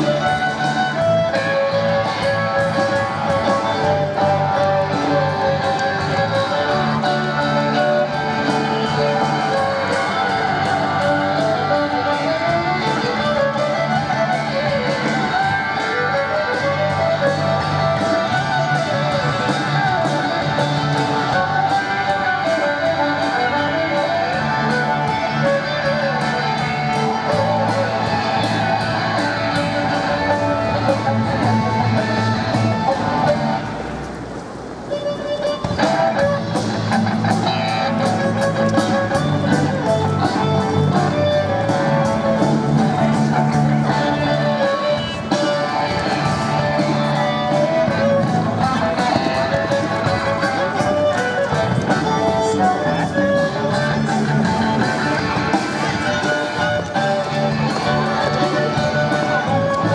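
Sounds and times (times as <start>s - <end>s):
violin melody: 0.0s - 33.7s, 34.9s - 59.9s
drums keeping a beat: 0.0s - 59.9s
strummed electric guitar: 0.0s - 59.9s.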